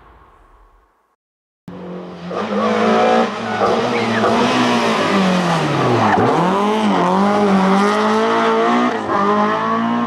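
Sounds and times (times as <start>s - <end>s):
rally car engine revving: 1.7s - 10.0s.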